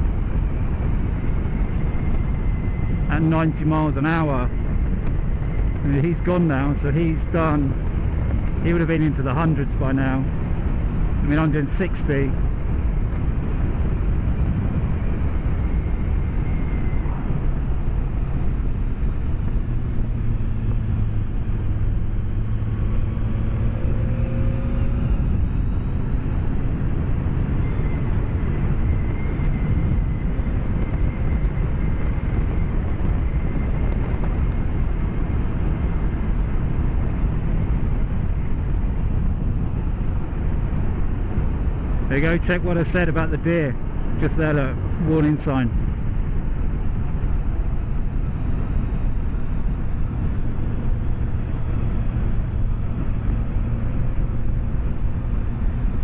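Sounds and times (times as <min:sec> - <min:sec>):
faint motorcycle engine hum: 0:00.0 - 0:56.0
wind and road roar: 0:00.0 - 0:56.0.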